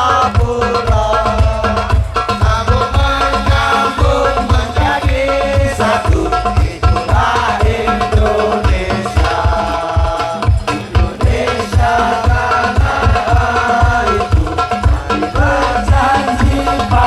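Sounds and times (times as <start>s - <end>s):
deep drum beat: 0.0s - 17.0s
hand drums: 0.0s - 17.0s
sustained melody line: 0.0s - 17.0s.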